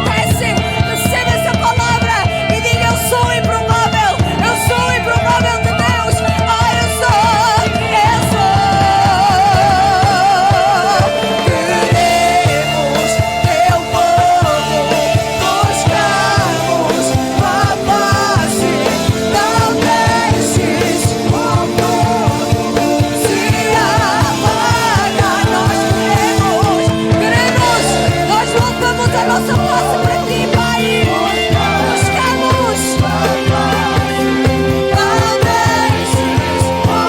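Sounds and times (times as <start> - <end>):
drums steady beat: 0.0 - 37.0
worship band playing: 0.0 - 37.0.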